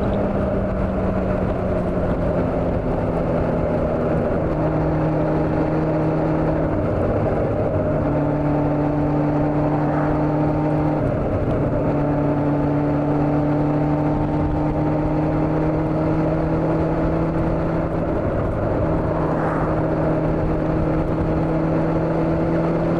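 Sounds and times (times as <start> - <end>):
motorcycle engine cruising: 0.0 - 22.9
road and wind noise: 0.0 - 22.9.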